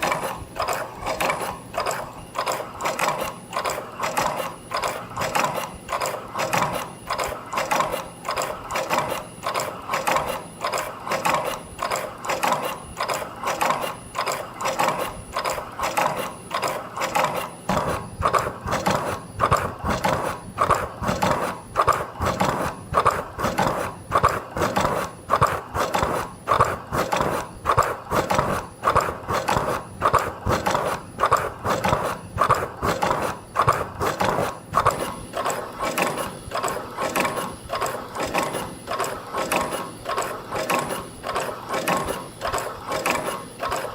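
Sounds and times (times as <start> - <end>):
spring-forming machine clatter: 0.0 - 43.9.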